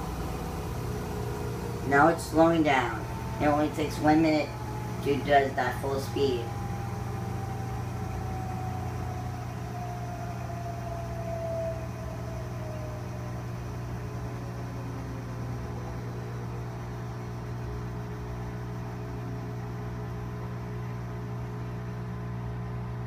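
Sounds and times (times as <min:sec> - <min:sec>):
low hum of turning drum: 0:00.0 - 0:23.0
washing machine motor whine: 0:00.0 - 0:23.0.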